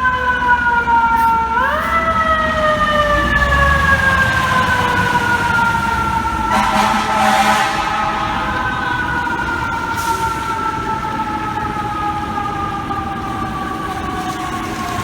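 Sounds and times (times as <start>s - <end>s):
mechanical siren winding down: 0.0s - 15.0s
street traffic: 0.0s - 15.0s
truck rumble: 0.0s - 15.0s.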